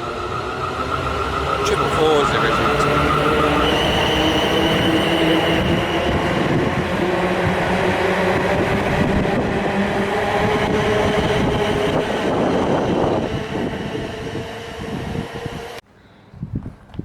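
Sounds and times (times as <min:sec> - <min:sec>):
electric train motors humming: 0:00.0 - 0:15.8
train wheels rumbling on rails: 0:00.0 - 0:15.8.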